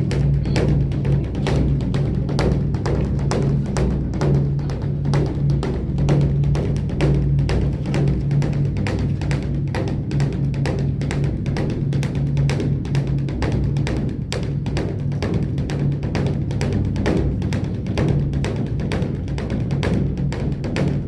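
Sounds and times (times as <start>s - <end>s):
large drum beaten rapidly: 0.0s - 21.0s.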